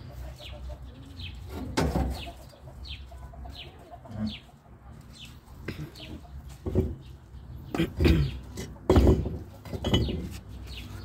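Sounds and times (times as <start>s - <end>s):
bird chirping: 0.0s - 9.2s, 9.8s - 11.0s.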